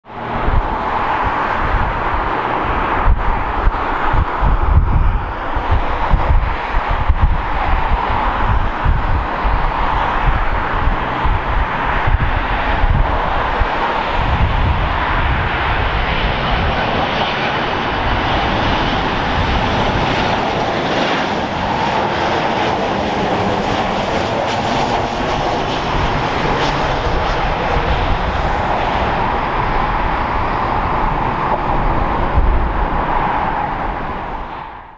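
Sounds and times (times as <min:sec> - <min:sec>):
jet airliner engines: 0:00.0 - 0:34.9.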